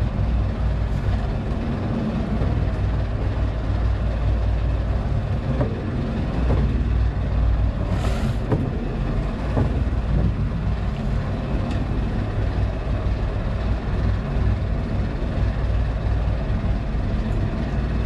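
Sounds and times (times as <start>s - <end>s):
boat engine droning: 0.0s - 18.0s
water noise: 0.0s - 18.0s.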